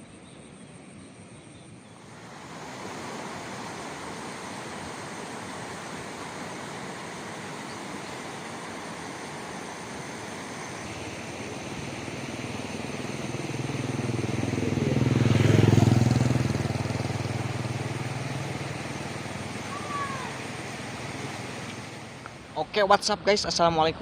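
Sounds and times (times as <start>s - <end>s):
motorcycle passing by: 2.0s - 22.3s.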